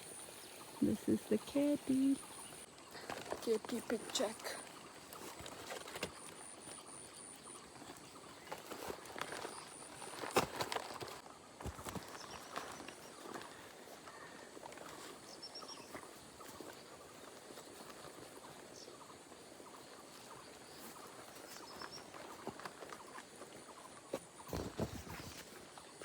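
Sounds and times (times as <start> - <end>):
small bird chirp: 0.0 - 26.0
soft outdoor hiss: 0.0 - 26.0.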